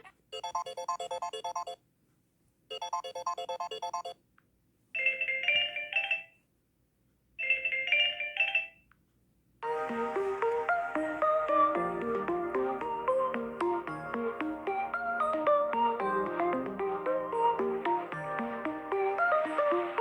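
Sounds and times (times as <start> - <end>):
electronic phone ringtone: 0.3 - 1.8, 2.7 - 4.2, 5.0 - 6.4, 7.4 - 8.8, 9.6 - 20.0.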